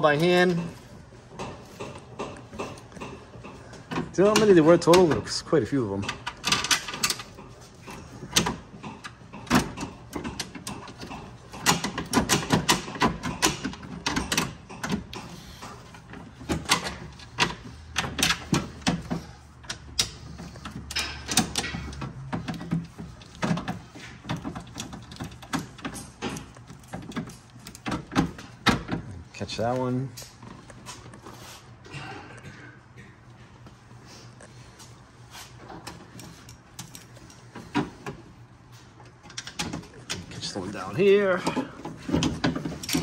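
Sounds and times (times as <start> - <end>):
metal bolts clicking and rattling: 0.0 - 31.1, 35.7 - 38.2, 39.0 - 43.0.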